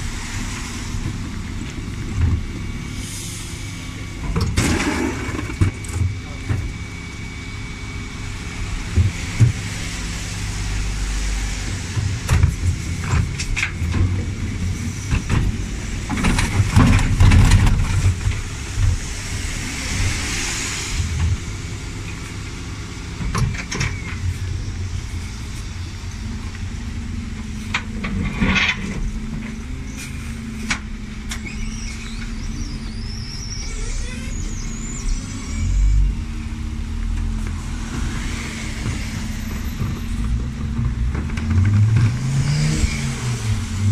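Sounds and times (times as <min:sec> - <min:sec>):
refuse truck idling: 0:00.0 - 0:17.2, 0:18.0 - 0:40.8.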